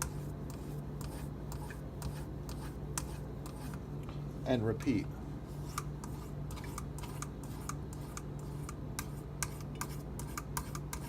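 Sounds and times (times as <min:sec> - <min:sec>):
knife scraping on whetstone: 0:00.0 - 0:03.8, 0:05.5 - 0:11.0
low electrical hum: 0:00.0 - 0:11.0.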